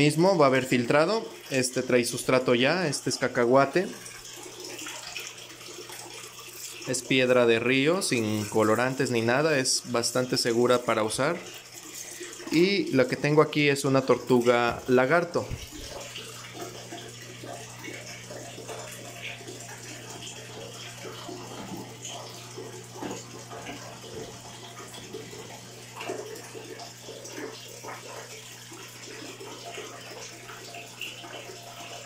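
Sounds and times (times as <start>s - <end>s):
water sloshing and splashing: 1.4s - 32.0s.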